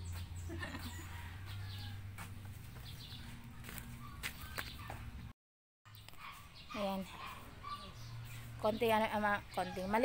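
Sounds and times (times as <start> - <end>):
outdoor ambience: 0.0 - 5.3, 5.9 - 10.0.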